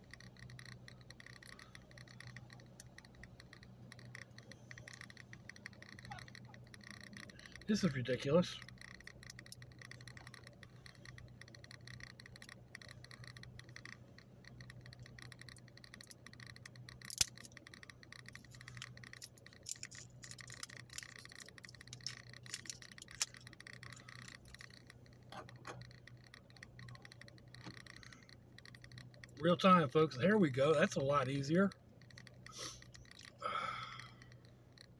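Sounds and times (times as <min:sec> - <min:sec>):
plastic clicks and scrapes: 0:00.0 - 0:29.5
car air conditioning hum: 0:00.0 - 0:34.9.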